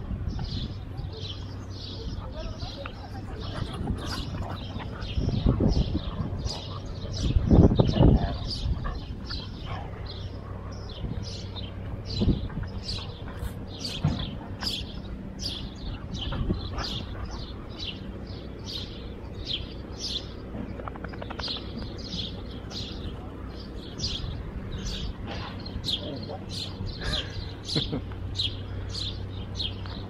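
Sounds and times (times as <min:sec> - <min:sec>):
small bird chirping: 0:00.3 - 0:30.0.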